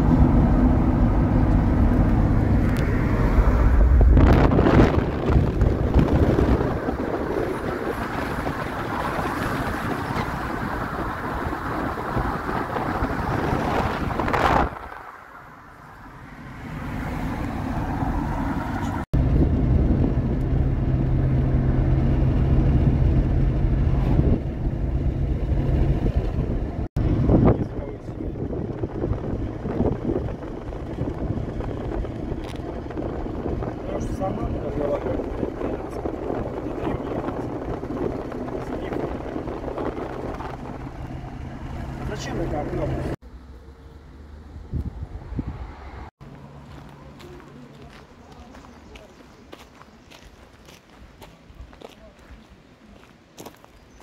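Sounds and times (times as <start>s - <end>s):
car engine and road noise: 0.0s - 54.0s
moving vehicle rumble: 0.0s - 54.0s.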